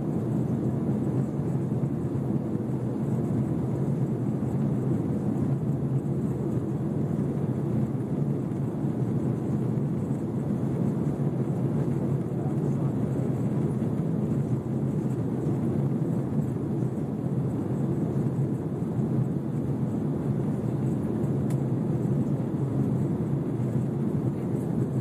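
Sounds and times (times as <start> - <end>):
jet engine cabin roar: 0.0 - 25.0.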